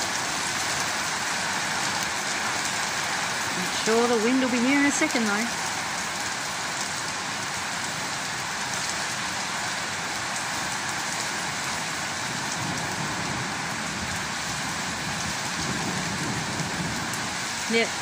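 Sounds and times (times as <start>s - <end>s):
heavy rain on paving and shrubs: 0.0s - 18.0s.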